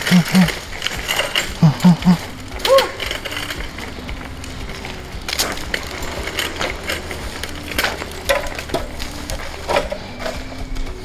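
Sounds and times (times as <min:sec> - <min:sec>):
wire cart rattling over concrete: 0:00.0 - 0:11.0.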